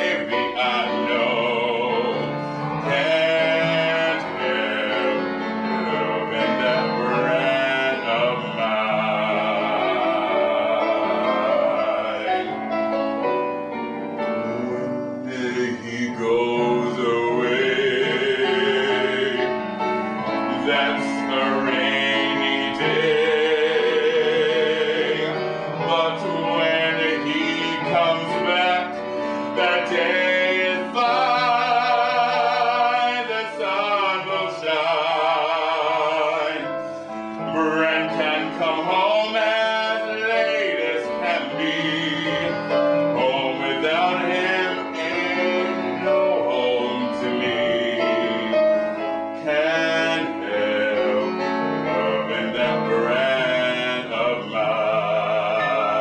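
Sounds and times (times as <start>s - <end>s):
man singing operatically: 0.0s - 12.8s, 14.2s - 56.0s
piano: 0.0s - 56.0s.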